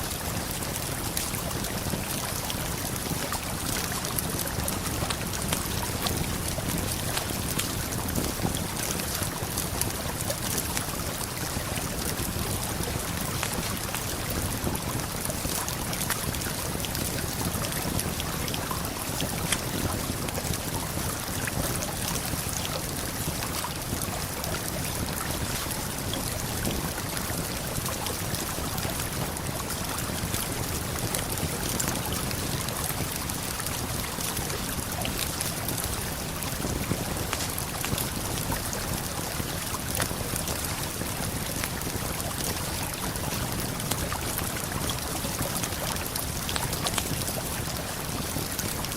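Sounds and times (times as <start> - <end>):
campfire popping and crackling: 0.1 - 48.9.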